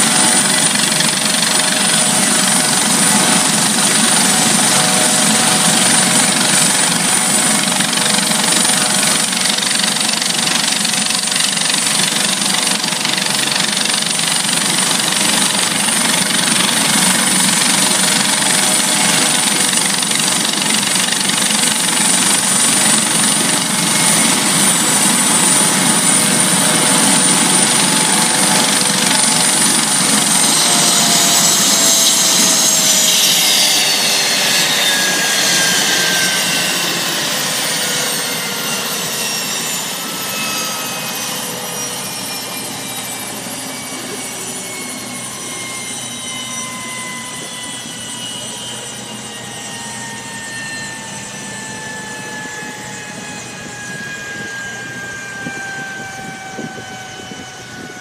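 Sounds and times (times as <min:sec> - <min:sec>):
helicopter rotor noise: 0:00.0 - 0:58.0
helicopter turbine whine: 0:00.0 - 0:58.0.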